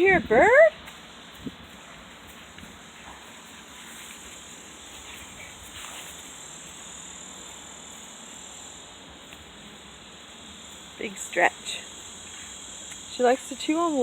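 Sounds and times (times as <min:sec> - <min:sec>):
cicadas droning: 0:00.0 - 0:14.0
faint rustles and ticks: 0:00.0 - 0:14.0.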